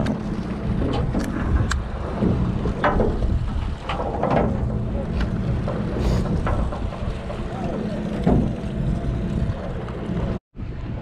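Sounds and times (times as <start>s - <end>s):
steady low rumble: 0.0s - 11.0s
wind buffeting microphone: 0.0s - 11.0s.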